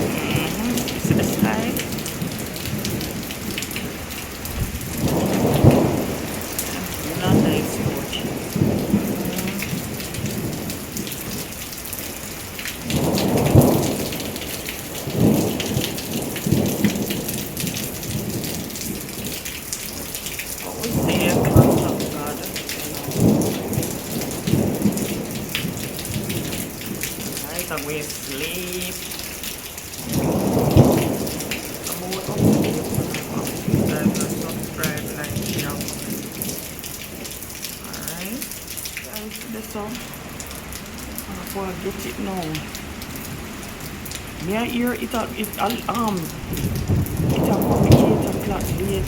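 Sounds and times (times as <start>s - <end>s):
heavy rain hissing: 0.0s - 49.0s
low rumbling wind gusts: 0.0s - 49.0s.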